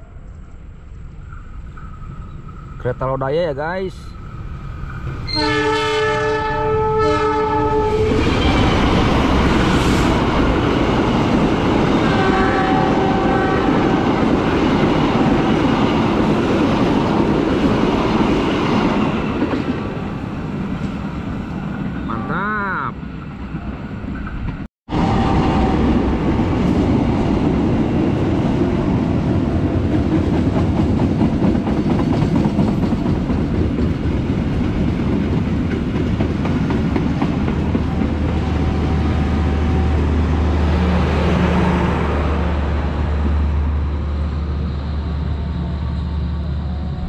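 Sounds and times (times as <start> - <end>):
train wheels on rails: 7.8 - 22.1, 23.0 - 47.0.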